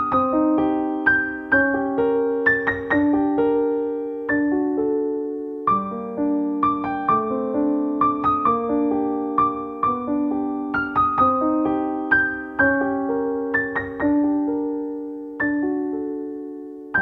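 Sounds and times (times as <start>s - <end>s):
slow gentle piano melody: 0.0s - 17.0s.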